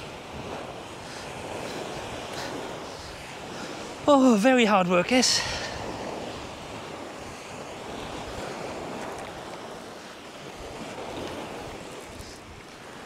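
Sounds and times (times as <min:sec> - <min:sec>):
small waves breaking on shore: 0:00.0 - 0:13.0
wind rumbling on microphone: 0:00.0 - 0:13.0.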